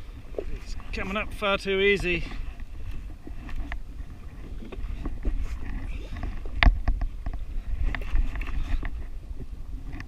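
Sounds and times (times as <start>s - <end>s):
water against hull: 0.0s - 10.0s
wind on microphone: 0.0s - 10.0s.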